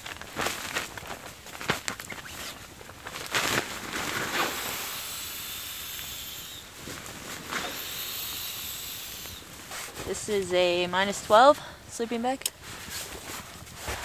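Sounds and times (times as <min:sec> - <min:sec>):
nylon sleeping gear rustling: 0:00.0 - 0:11.6, 0:12.6 - 0:14.0
steady soft hiss: 0:00.2 - 0:14.0.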